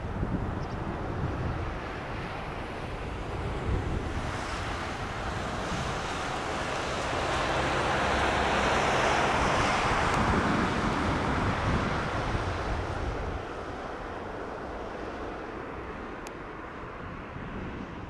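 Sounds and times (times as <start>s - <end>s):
jet engines at takeoff: 0.0s - 18.0s.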